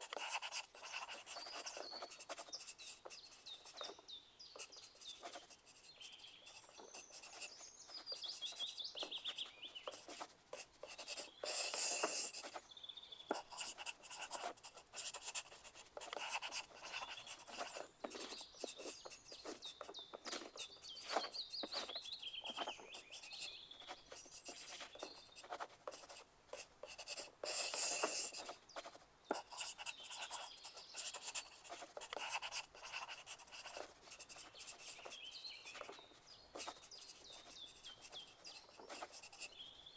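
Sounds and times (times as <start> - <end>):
pencils scratching on paper: 0.0 - 4.0, 4.6 - 12.6, 13.3 - 39.6
birds chirping faintly: 0.0 - 39.9.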